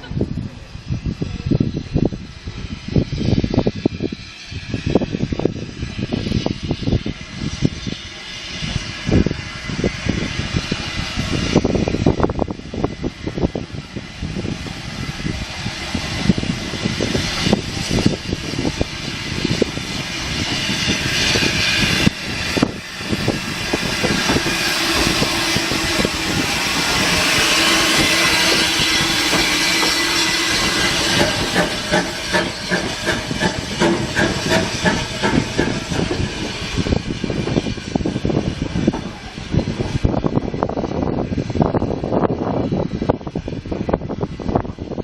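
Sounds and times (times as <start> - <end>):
steam locomotive hissing steam: 0.0 - 45.0.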